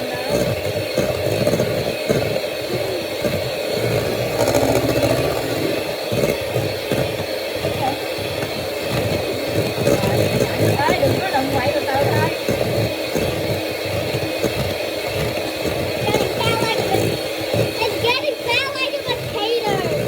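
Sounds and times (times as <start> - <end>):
electric hand mixer whipping: 0.0 - 20.0.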